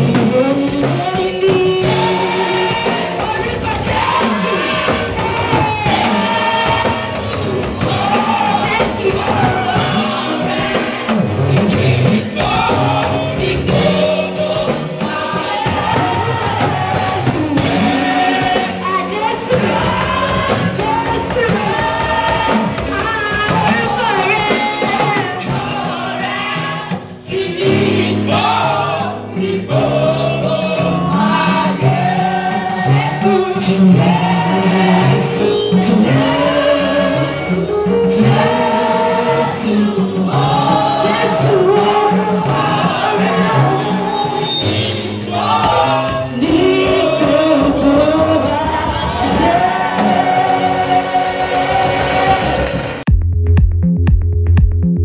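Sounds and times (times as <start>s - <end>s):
women's choir singing gospel: 0.0s - 53.1s
drum kit steady beat: 0.0s - 55.0s
live band playing: 0.0s - 55.0s.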